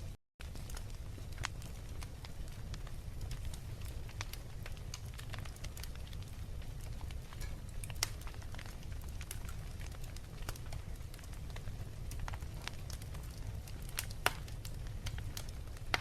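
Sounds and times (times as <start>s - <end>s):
wood fire crackling: 0.0s - 16.0s
sharp pops of fire: 0.4s - 16.0s.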